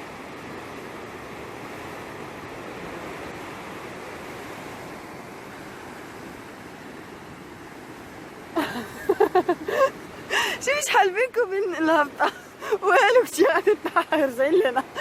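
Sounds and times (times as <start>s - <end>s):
waves washing on shore: 0.0s - 15.0s.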